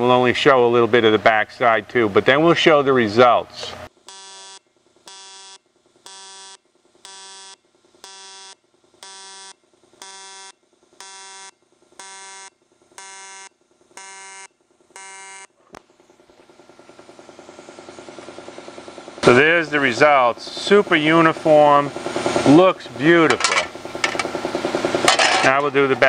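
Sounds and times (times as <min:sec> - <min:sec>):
welding arc buzzing in pulses: 0:03.9 - 0:26.0.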